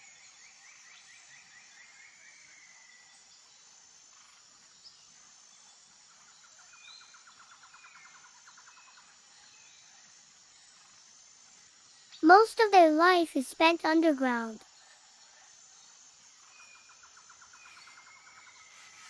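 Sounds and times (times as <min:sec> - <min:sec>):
soft hiss: 0:00.0 - 0:19.0.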